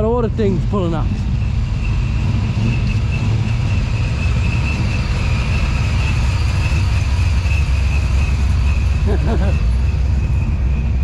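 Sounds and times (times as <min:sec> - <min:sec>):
car engines rumbling: 0:00.0 - 0:11.0
high-pitched whine: 0:00.0 - 0:11.0.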